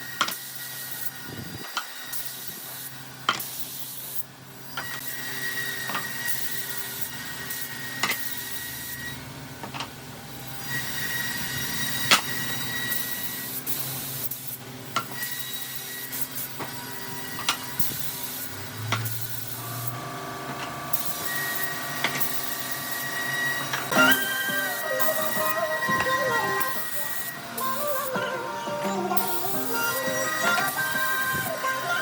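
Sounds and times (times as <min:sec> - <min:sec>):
high machine whine: 0:00.0 - 0:32.0
woodworking machinery running: 0:04.7 - 0:32.0.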